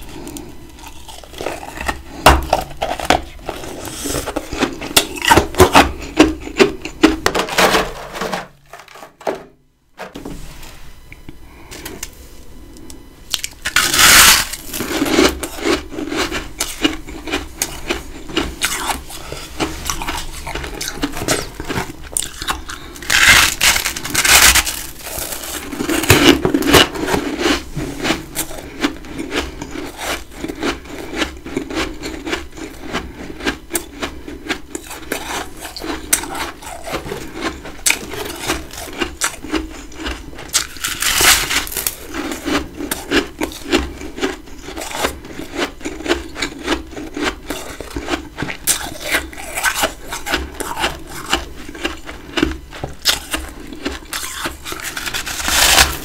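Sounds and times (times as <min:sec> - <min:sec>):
frost being bitten and chewed: 0:00.1 - 0:07.2, 0:13.3 - 0:56.0.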